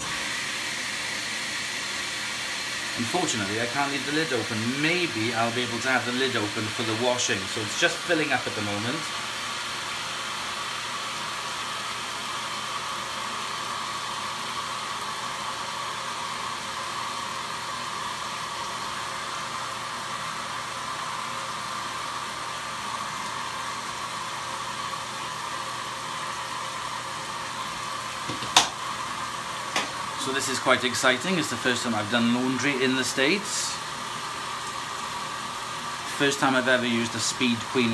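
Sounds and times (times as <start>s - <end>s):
water pouring into washing machine: 0.0s - 37.9s.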